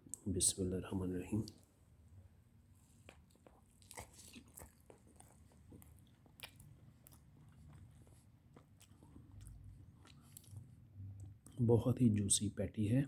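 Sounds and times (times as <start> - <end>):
person chewing with small crunches: 1.1 - 11.6.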